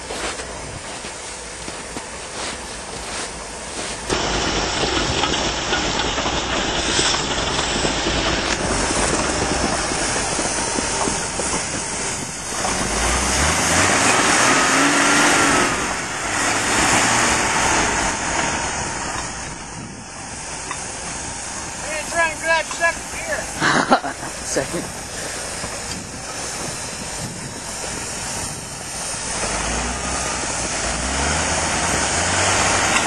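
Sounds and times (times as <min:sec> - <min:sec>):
tracked vehicle engine running: 0:00.0 - 0:33.0.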